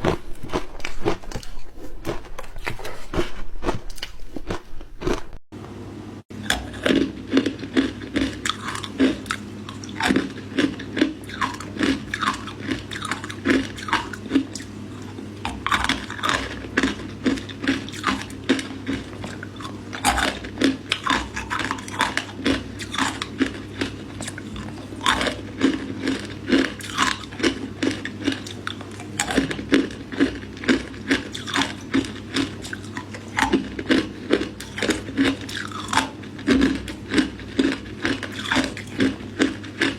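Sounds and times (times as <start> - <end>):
ice crunching while chewed: 0.0 - 5.4, 6.4 - 39.9.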